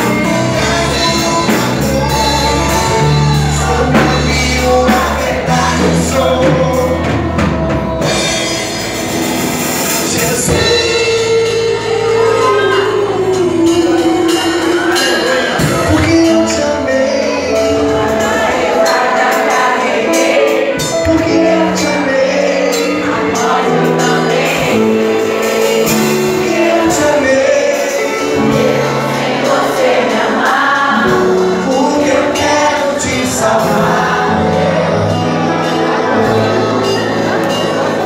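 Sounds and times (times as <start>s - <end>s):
gospel band playing: 0.0s - 38.0s
people singing: 0.0s - 38.0s.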